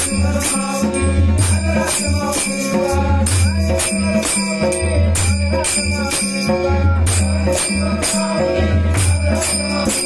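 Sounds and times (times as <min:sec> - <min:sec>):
hand drum beat: 0:00.0 - 0:10.0
harmonium: 0:00.0 - 0:10.0
small hand cymbals: 0:00.0 - 0:10.0.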